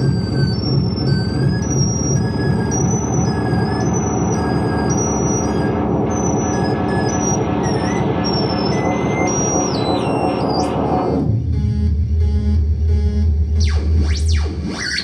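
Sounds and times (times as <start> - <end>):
distorted electronic noise: 0.0 - 15.0
shrill jumping electronic tones: 0.0 - 15.0.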